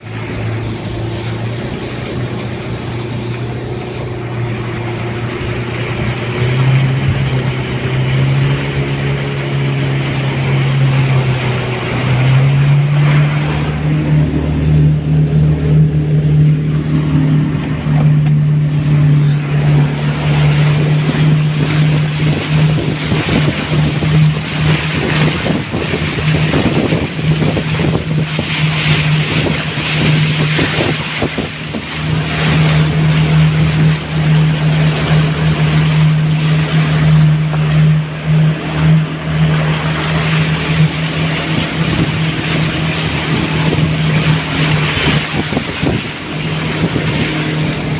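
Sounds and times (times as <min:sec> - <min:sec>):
engine humming: 0:00.0 - 0:47.9
wind on microphone: 0:00.0 - 0:47.9.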